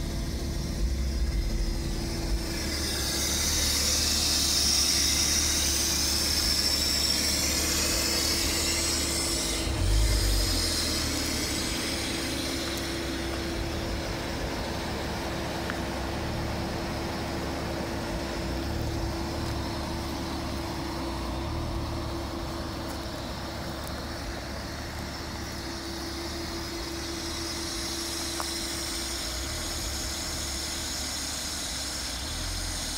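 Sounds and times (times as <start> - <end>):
car driving over gravel: 0.0 - 32.9
car engine idling: 0.0 - 32.9.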